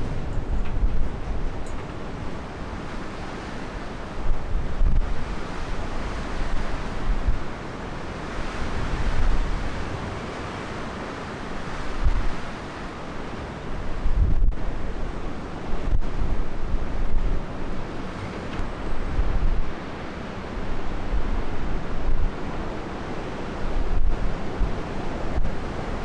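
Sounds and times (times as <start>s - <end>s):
storm wind on microphone: 0.0s - 26.0s.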